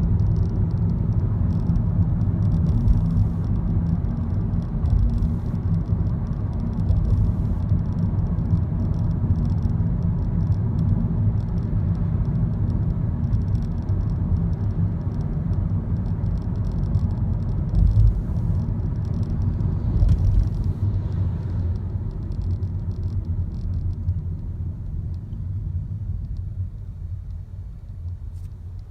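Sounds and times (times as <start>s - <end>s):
car rumbling on the move: 0.0s - 28.9s.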